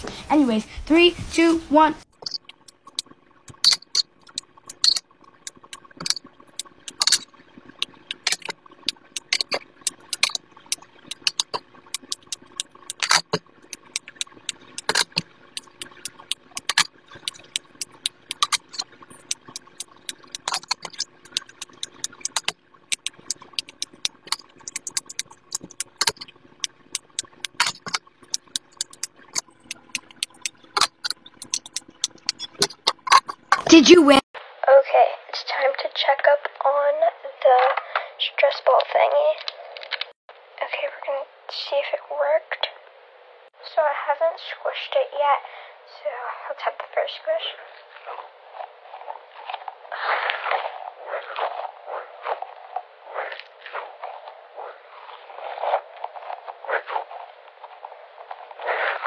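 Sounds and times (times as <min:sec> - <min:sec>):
faint steady hum: 0:00.0 - 0:58.8.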